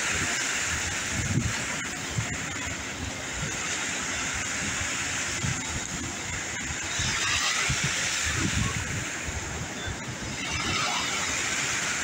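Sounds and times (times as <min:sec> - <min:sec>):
ocean surf washing around pilings: 0:00.0 - 0:12.0.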